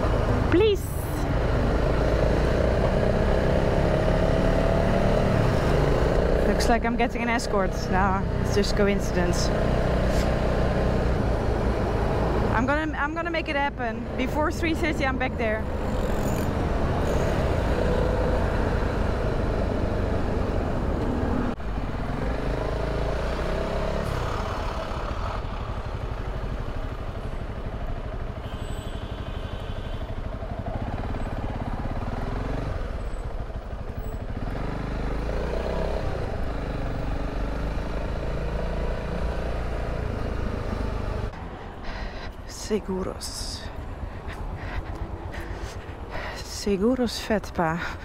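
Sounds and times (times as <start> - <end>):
motorcycle engine revving: 0.0 - 12.8, 14.0 - 28.4, 30.1 - 41.6
wind and road noise: 0.0 - 48.0.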